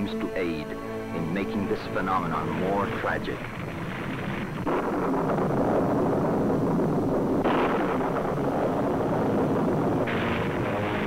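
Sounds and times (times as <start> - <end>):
dense rushing noise: 0.7 - 11.0.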